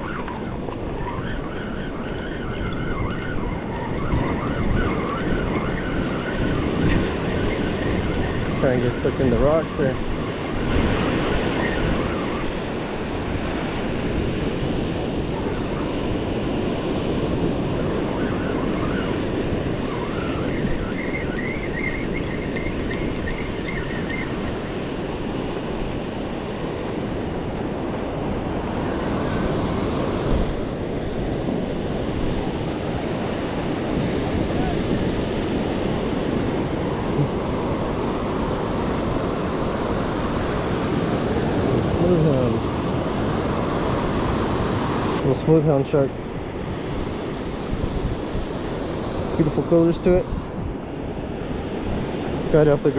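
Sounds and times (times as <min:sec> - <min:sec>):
ocean surf washing on shore: 0:00.0 - 0:52.9
wind buffeting microphone: 0:00.0 - 0:52.9.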